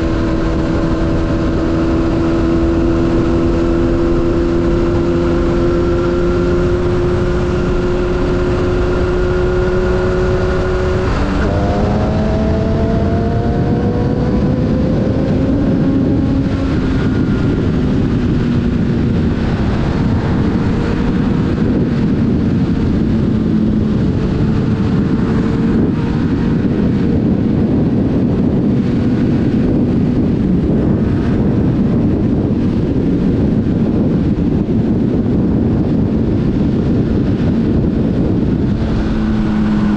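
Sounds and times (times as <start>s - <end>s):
motorcycle engine running hard: 0.0s - 39.9s
wind rush on microphone: 0.0s - 39.9s.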